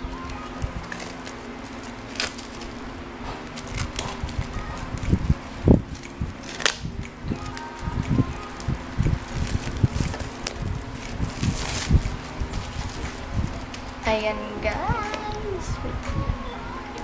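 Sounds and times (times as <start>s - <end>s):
cellophane wrap crinkling: 0.0s - 14.2s.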